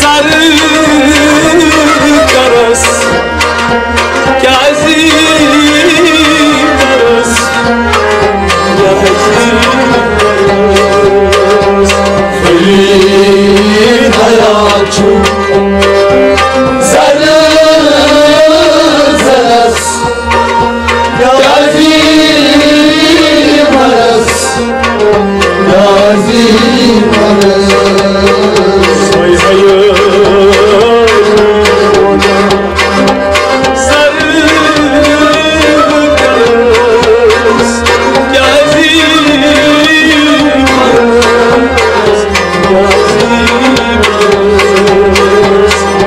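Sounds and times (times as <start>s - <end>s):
tabla drumming: 0.0s - 46.0s.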